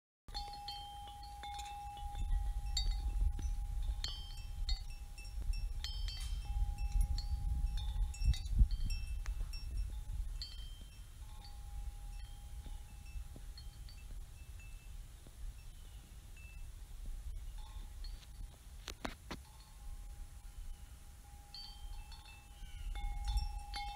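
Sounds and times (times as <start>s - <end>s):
wind chimes ringing: 0.3s - 15.0s, 15.6s - 16.7s, 17.4s - 18.6s, 19.4s - 23.9s.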